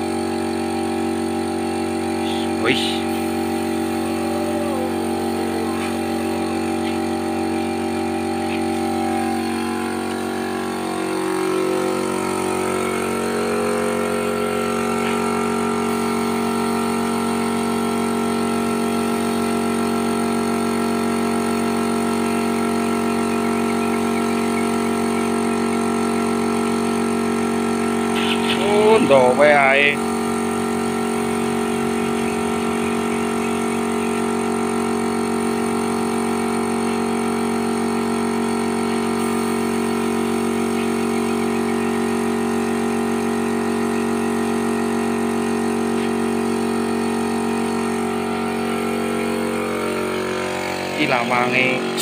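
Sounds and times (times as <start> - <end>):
motor humming: 0.0 - 52.0.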